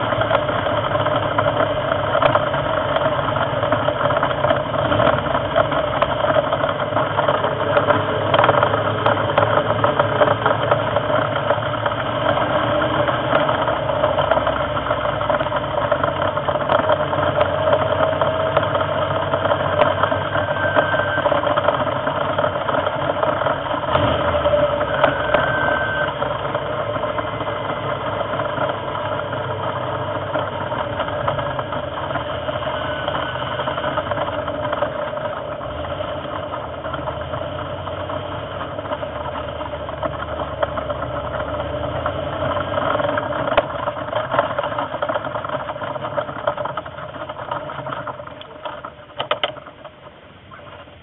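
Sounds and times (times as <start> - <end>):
sports car engine droning: 0.0 - 51.0.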